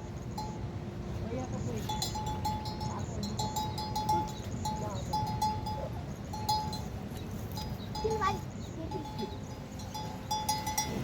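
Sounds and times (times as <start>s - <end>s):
livestock bells clanking: 0.2s - 0.7s, 1.8s - 11.0s.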